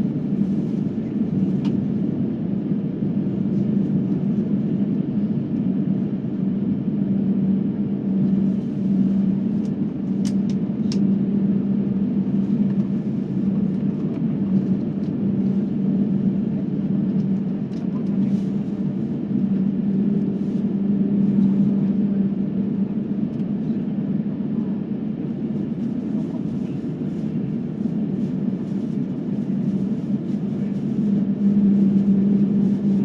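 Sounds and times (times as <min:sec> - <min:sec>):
constant low hum: 0:00.0 - 0:33.0
jet engine cabin drone: 0:00.0 - 0:33.0.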